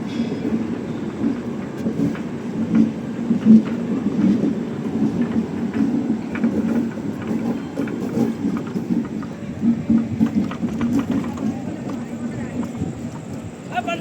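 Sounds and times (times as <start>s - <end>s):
train rumble and hum: 0.0s - 14.0s
train wheels clicking: 0.0s - 14.0s.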